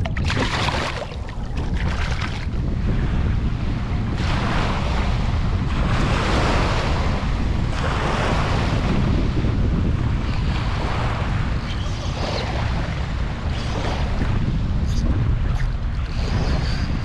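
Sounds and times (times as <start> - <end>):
small waves washing on beach: 0.0 - 17.0
wind rumble on microphone: 0.0 - 17.0.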